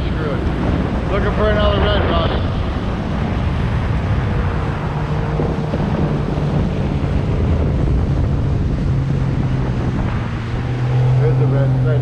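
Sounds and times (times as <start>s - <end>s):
motorboat engine humming: 0.0s - 12.0s
wind buffeting microphone: 0.0s - 12.0s.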